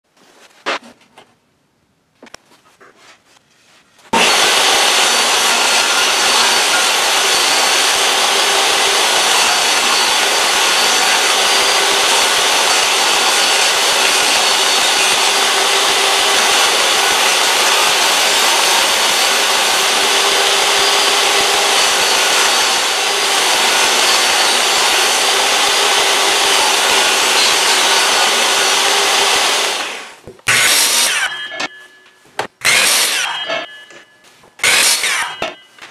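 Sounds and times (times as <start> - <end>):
table saw ripping wood: 4.1 - 35.9.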